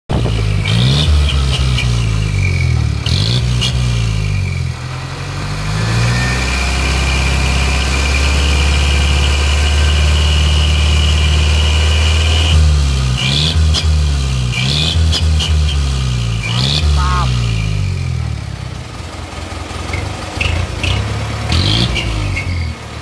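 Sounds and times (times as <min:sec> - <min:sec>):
diesel truck engine revving: 0:00.1 - 0:23.0.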